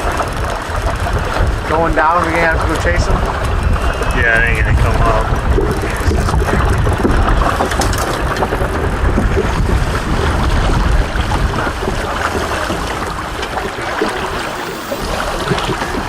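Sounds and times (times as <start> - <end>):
heavy low rumble: 0.0 - 16.0
water rushing around boat: 0.0 - 16.0
wind buffeting microphone: 0.0 - 16.0.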